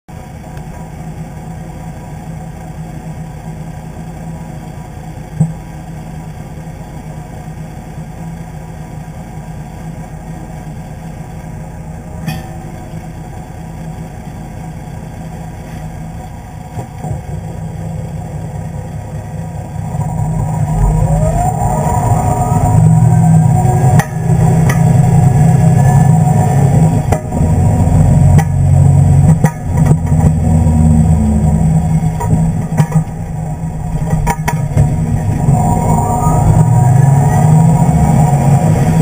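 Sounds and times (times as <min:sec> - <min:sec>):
diesel truck engine idling: 0:00.1 - 0:39.0.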